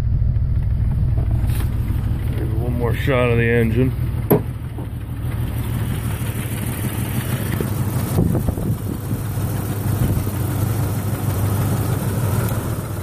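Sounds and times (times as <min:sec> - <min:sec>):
engine idling roughly: 0:00.0 - 0:13.0
engine knock: 0:00.0 - 0:13.0.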